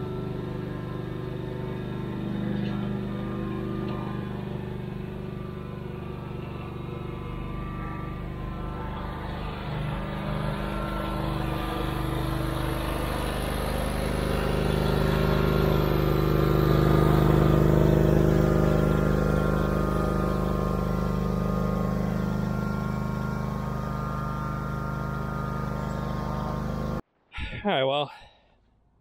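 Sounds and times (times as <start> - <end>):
riding mower engine running: 0.0 - 27.0.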